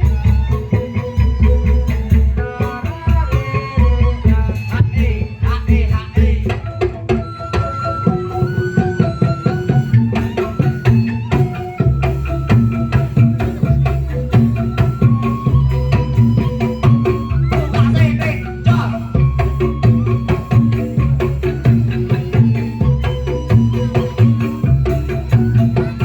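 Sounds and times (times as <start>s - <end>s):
fast hand-drum beats: 0.0s - 26.0s.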